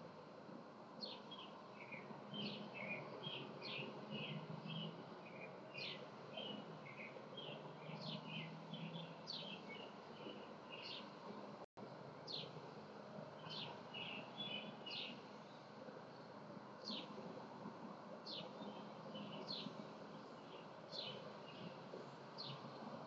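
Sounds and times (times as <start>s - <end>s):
songbirds calling: 1.0s - 11.6s, 12.2s - 23.0s.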